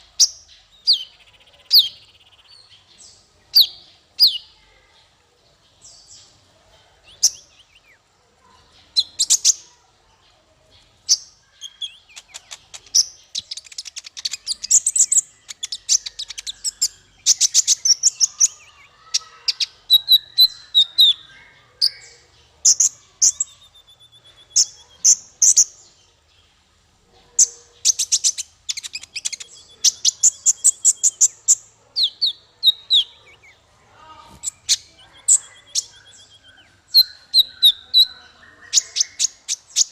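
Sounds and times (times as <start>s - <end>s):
small songbird chirping: 0.0s - 39.9s.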